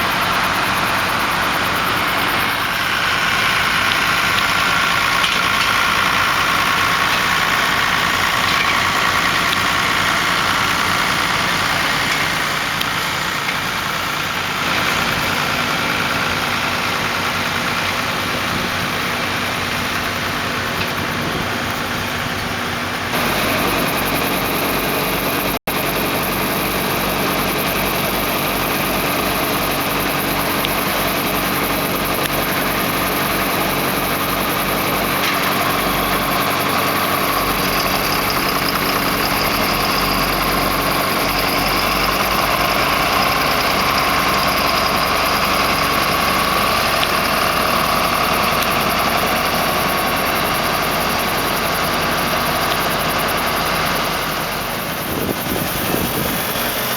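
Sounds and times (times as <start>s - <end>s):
combine harvester running: 0.0s - 56.9s
machinery whine: 0.0s - 56.9s.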